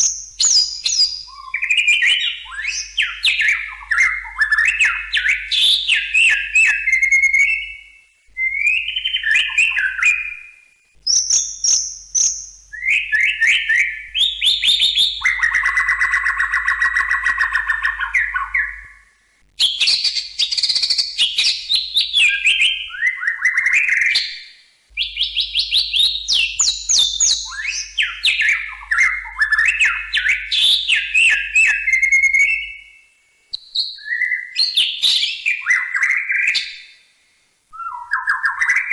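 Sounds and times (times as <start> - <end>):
bird singing whistles: 0.0 - 37.0, 37.7 - 38.9.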